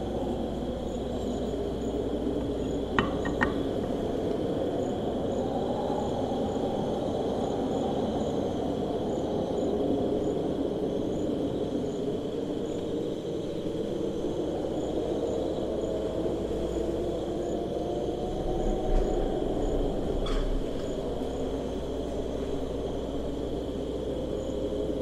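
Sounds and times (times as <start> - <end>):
cricket trill: 0.0 - 25.0
high insect chirps: 0.0 - 25.0.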